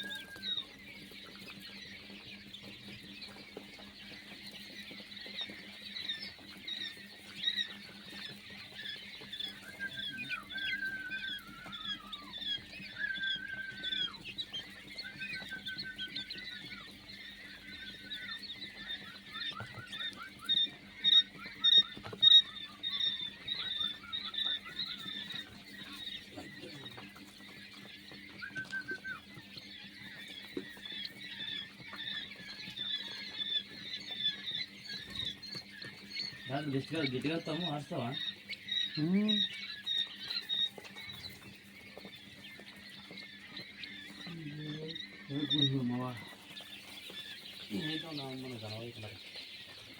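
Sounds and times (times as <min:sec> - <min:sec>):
quail chirping and peeping: 0:00.0 - 0:49.9.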